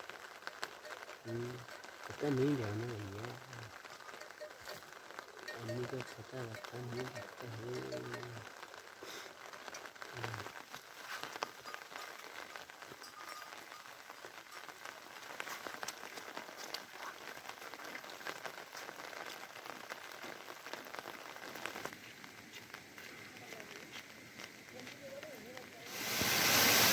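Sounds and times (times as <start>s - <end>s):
raindrops ticking close by: 0.0s - 26.9s
steady rain falling: 0.0s - 26.9s.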